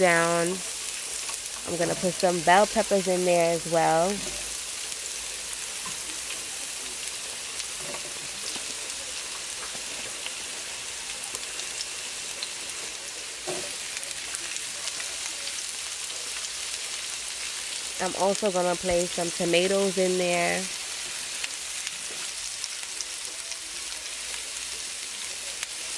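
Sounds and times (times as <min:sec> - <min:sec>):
onions sizzling in oil: 0:00.0 - 0:25.9.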